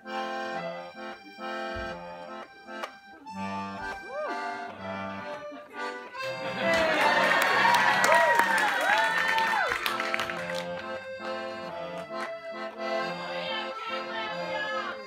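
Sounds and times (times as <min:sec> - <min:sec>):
held music chords: 0:00.0 - 0:08.0, 0:09.8 - 0:15.0.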